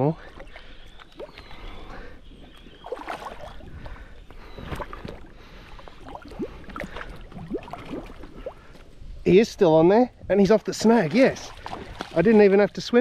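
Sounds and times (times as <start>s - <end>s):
water splashing from wading: 0.2s - 8.8s, 10.7s - 12.8s.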